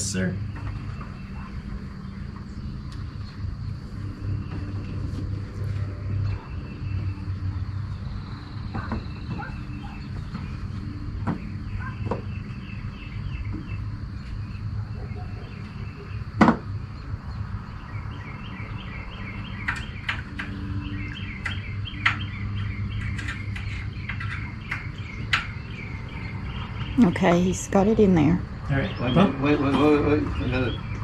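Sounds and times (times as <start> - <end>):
birds chirping and trilling: 0.0 - 31.0.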